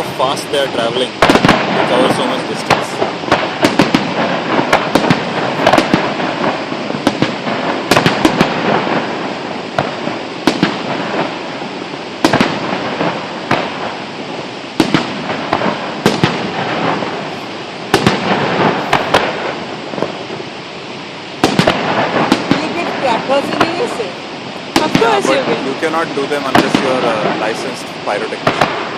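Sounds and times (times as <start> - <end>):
fireworks bangs: 0.0 - 28.9
fireworks crackling: 0.0 - 28.9.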